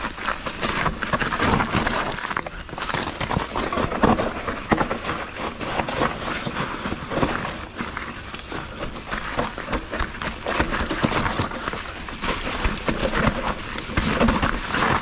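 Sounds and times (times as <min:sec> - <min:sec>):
bike knocking and rattling: 0:00.0 - 0:15.0
bike tyres rolling over mud: 0:00.0 - 0:15.0.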